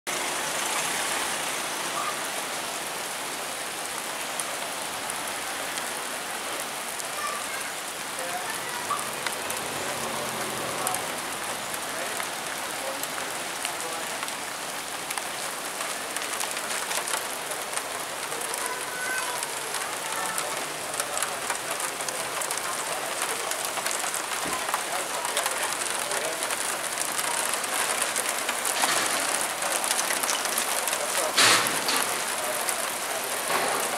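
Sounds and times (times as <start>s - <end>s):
raindrops ticking: 0.1s - 33.9s
steady rain: 0.1s - 33.9s.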